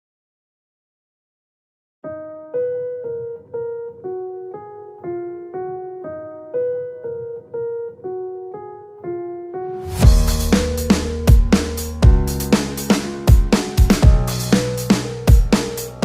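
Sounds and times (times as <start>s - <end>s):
simple piano melody: 2.0s - 16.0s.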